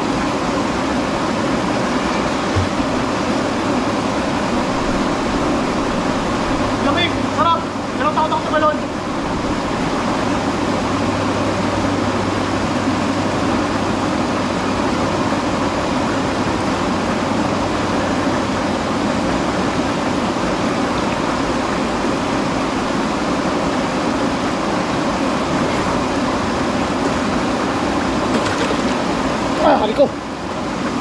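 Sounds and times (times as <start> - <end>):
stream rushing into pool: 0.0 - 31.0.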